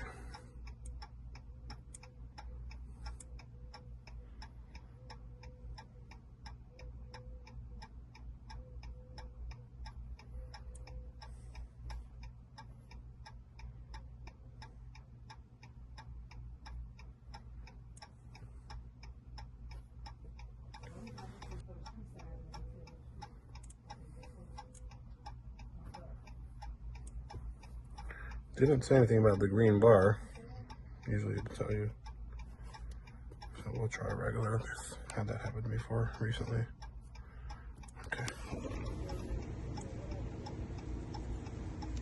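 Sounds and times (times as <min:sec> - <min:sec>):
hazard light flasher ticking: 0:00.0 - 0:42.0.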